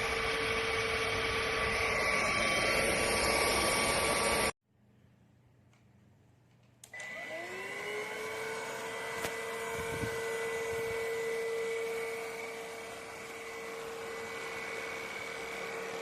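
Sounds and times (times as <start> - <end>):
vacuum motor whine: 0.0 - 4.5, 6.9 - 16.0.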